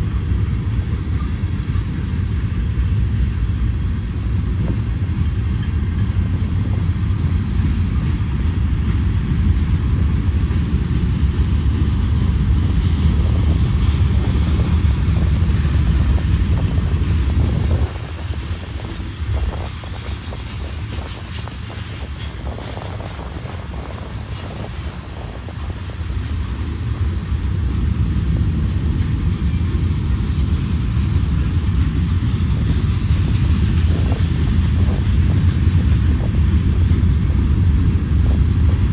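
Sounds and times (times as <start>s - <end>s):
diesel locomotive engine rumble: 0.0s - 38.9s.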